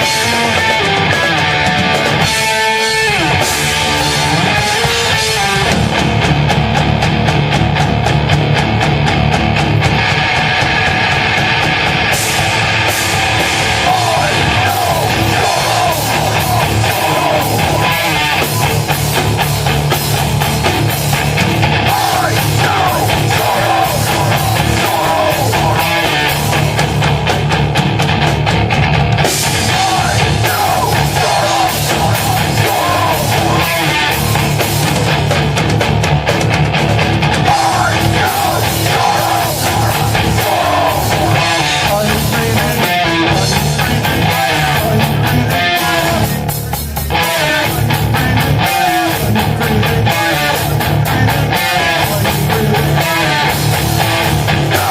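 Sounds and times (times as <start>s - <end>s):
distorted electric guitars: 0.0s - 54.9s
drum kit: 0.0s - 54.9s.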